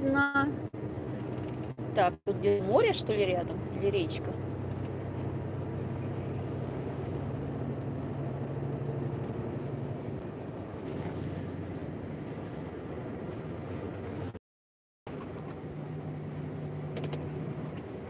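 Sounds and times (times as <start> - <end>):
diesel engine humming: 0.0 - 14.4, 15.1 - 18.0
road and tyre noise: 0.0 - 14.4, 15.1 - 18.0.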